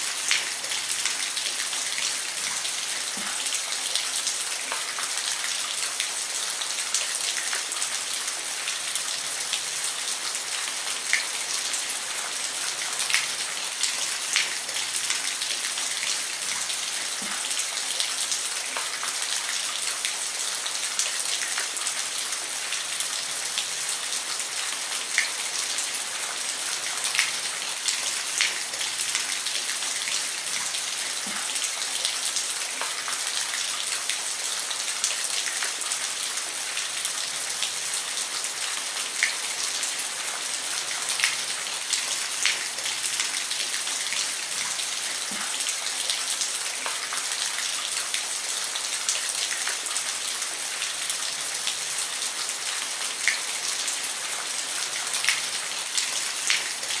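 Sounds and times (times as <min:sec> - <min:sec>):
rain falling on a roof: 0:00.0 - 0:57.0.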